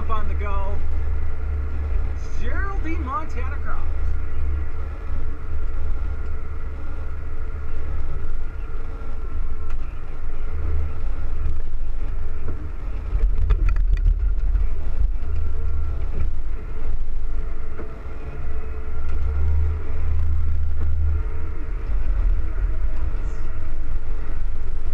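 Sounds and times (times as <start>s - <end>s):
faint steady whine: 0.0s - 24.9s
tractor engine drone: 0.0s - 24.9s.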